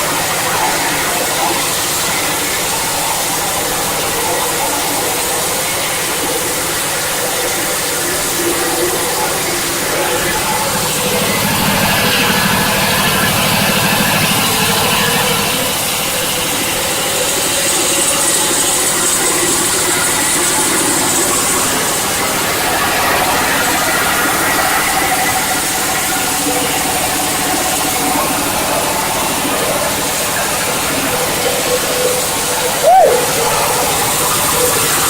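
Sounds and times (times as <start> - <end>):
machine running: 0.0 - 35.0.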